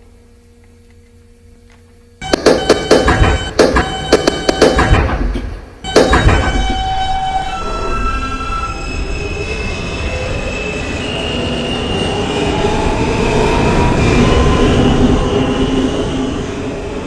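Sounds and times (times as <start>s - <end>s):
high whining tones: 2.2s - 17.0s
subway wheels rumbling on track: 2.2s - 17.0s.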